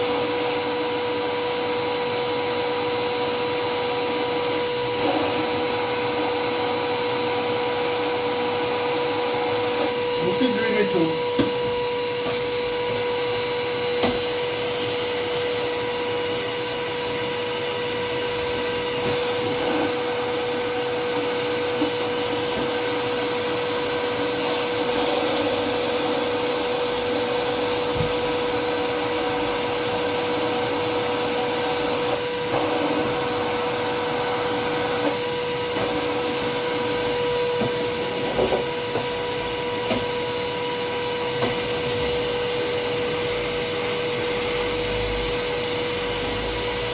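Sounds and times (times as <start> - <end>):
vacuum cleaner motor whining: 0.0 - 46.9.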